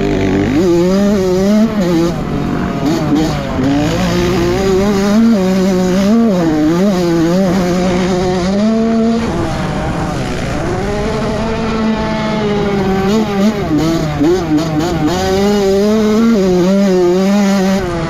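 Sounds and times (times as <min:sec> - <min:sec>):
motocross engine revving: 0:00.0 - 0:18.0.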